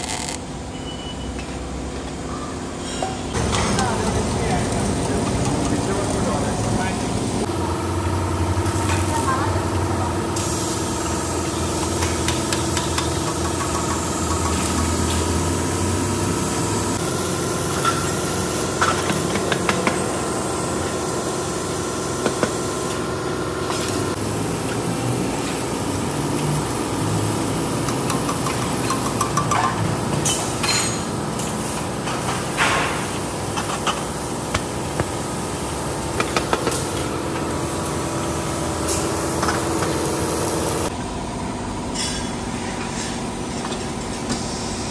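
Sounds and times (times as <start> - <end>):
workshop machinery hum: 0.0 - 44.9.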